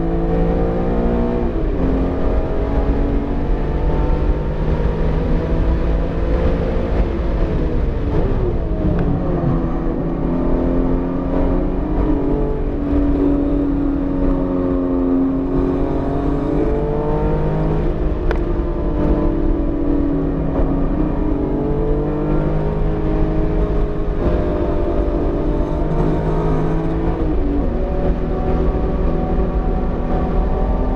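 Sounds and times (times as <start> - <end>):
car engine revving: 0.0 - 30.9
road and wind noise: 0.0 - 30.9.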